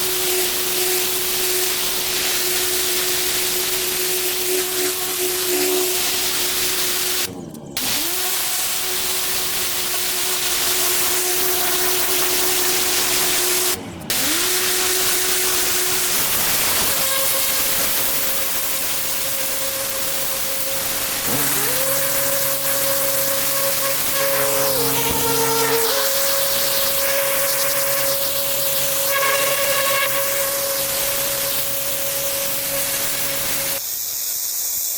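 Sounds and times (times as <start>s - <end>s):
pressure washer motor hum: 0.0s - 33.8s
pressure washer water jet hiss: 0.0s - 33.9s.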